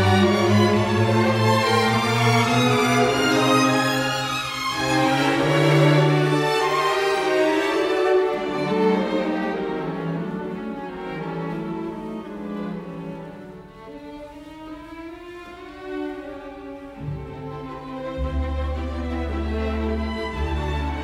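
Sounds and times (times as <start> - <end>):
string melody: 0.0 - 21.0.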